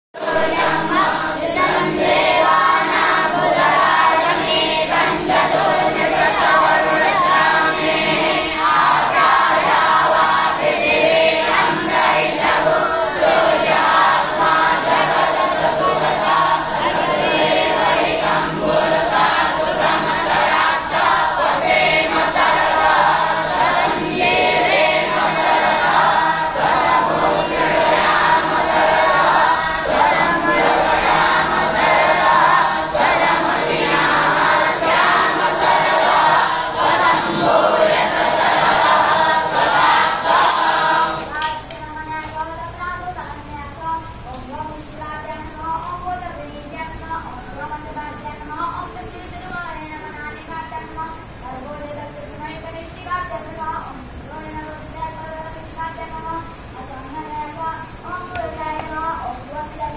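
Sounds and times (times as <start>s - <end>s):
children chanting in unison: 0.2s - 59.9s.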